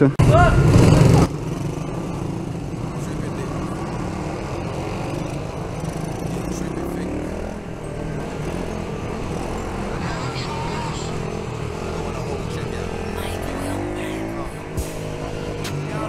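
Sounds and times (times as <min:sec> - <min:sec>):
motorbike engines droning: 0:00.0 - 0:16.0.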